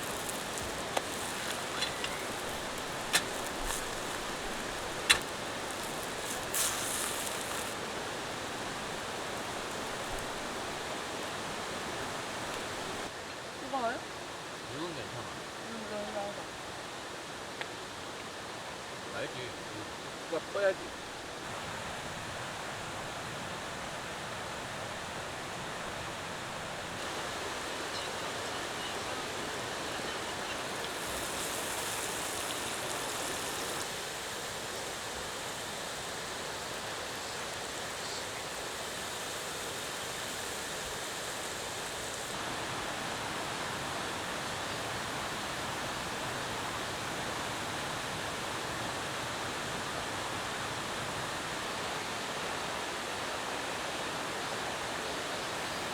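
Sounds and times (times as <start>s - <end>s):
stream rushing over rocks: 0.0s - 55.9s.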